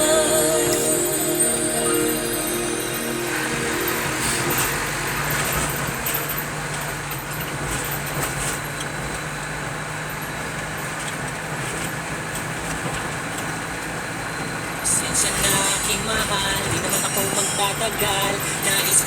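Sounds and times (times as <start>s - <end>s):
low engine hum: 0.0s - 19.0s
road and tyre noise: 0.0s - 19.0s.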